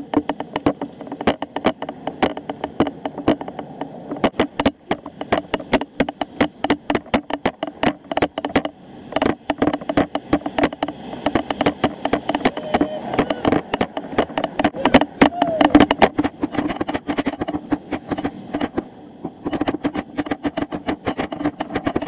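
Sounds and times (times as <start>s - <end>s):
bicycle gear rattling: 0.0s - 22.0s
road noise rumble: 0.0s - 22.0s.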